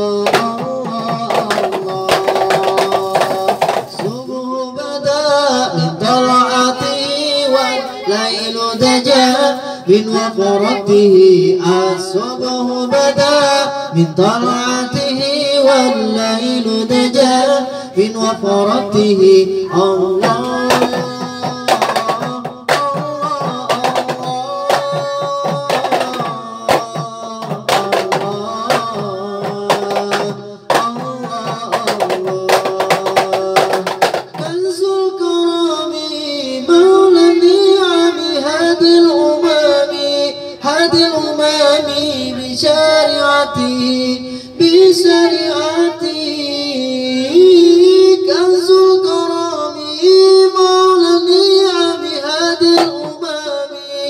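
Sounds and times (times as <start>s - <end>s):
frame drums beaten fast: 0.0s - 49.2s, 50.0s - 54.0s
person singing through microphone: 0.0s - 54.0s.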